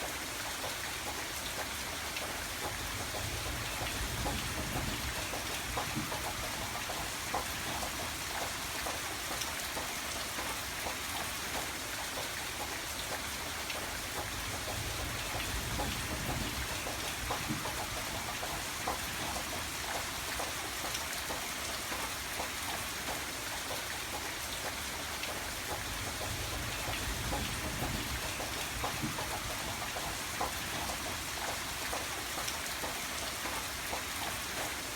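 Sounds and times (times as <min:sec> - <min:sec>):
rain drops pattering: 0:00.0 - 0:34.9.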